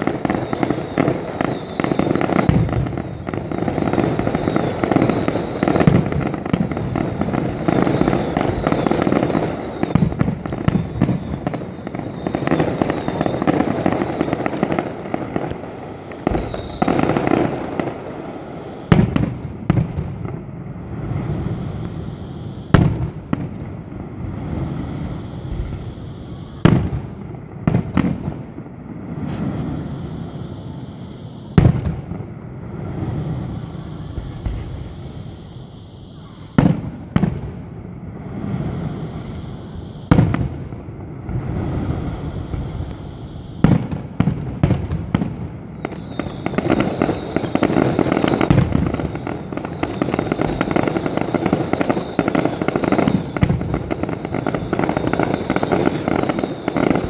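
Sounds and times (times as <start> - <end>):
falling firework whistle: 0.0 - 57.0
fireworks crackling and popping: 0.0 - 57.0
loud firework bangs: 0.0 - 57.0.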